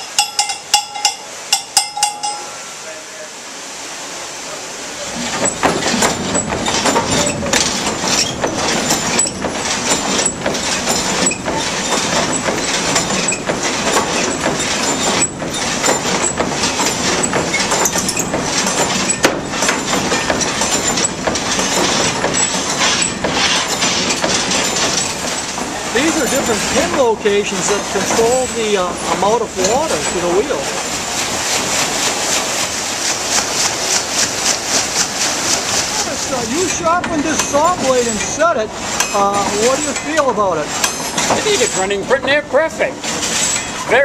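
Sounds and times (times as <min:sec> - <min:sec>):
sawmill blade clattering: 0:00.0 - 0:02.6, 0:05.1 - 0:44.0.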